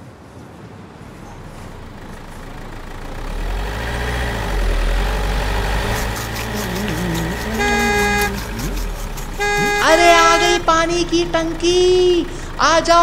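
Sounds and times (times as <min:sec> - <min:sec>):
truck engine rumble: 0:00.8 - 0:13.0
truck horn honking: 0:01.4 - 0:13.0.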